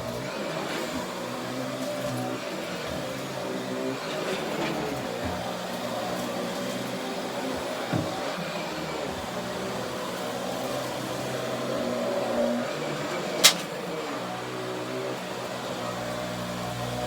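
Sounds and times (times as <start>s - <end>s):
vacuum cleaner whirring: 0.0s - 17.0s.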